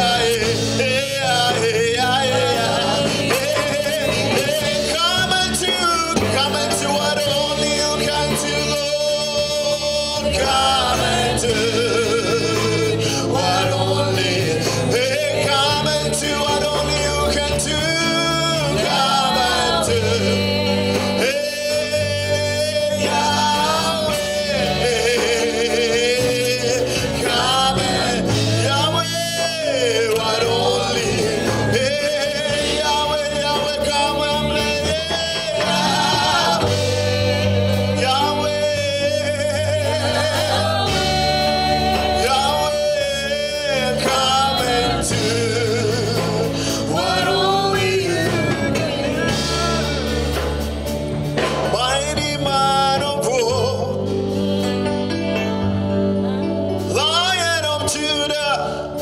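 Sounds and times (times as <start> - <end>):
sustained chord accompaniment: 0.0 - 59.0.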